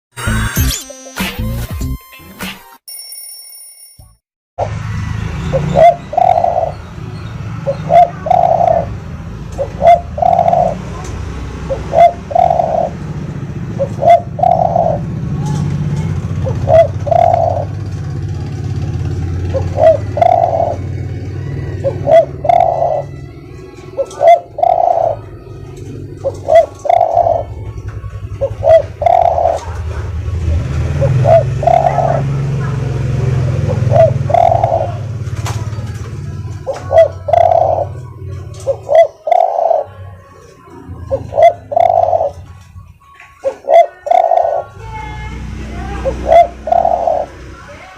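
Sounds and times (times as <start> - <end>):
dove cooing: 5.5 - 6.9, 7.6 - 47.6.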